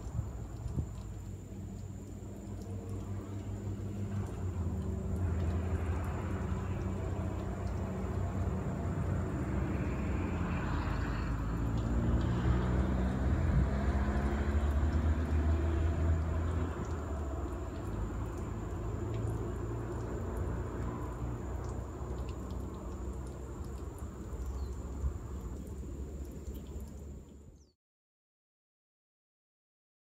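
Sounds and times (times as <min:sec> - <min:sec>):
vehicle engine humming: 0:00.0 - 0:27.3.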